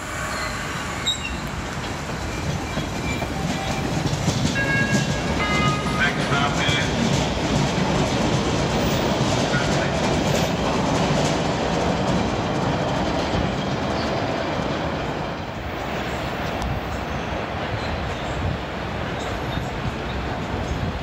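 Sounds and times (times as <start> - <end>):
subway train rumbling on rails: 0.0 - 21.0.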